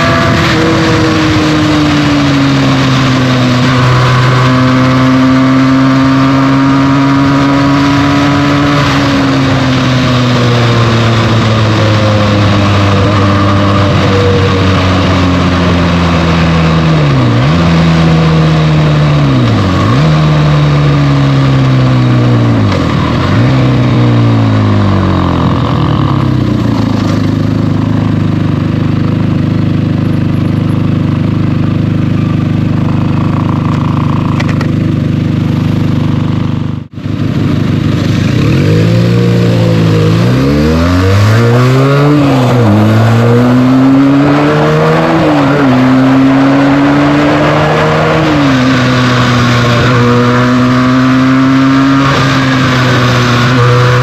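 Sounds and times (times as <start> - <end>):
motorcycle engine shifting gears: 0.0 - 54.0.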